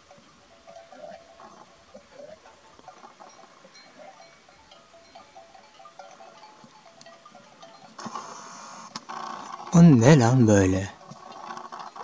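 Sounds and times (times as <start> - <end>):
faint clinking of animal bells: 0.0 - 12.0.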